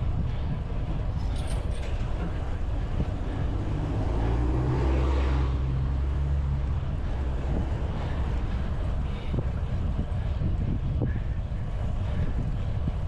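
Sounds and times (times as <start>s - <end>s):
wind on microphone: 0.0s - 13.0s
vehicle engine hum passing: 0.8s - 13.0s.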